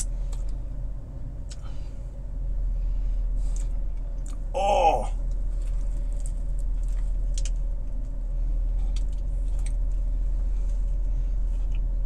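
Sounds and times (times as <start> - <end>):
low hum inside car: 0.0 - 12.0.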